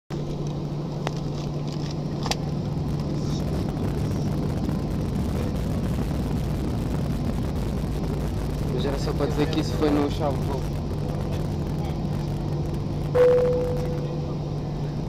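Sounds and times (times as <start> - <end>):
airliner cabin hum and rumble: 0.1 - 15.0.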